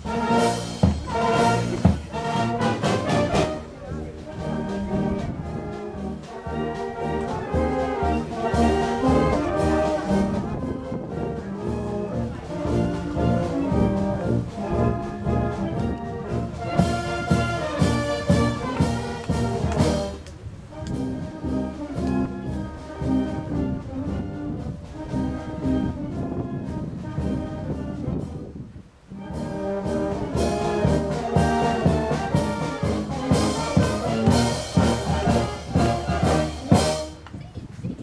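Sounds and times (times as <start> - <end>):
brass band playing: 0.0 - 28.4, 29.0 - 37.3.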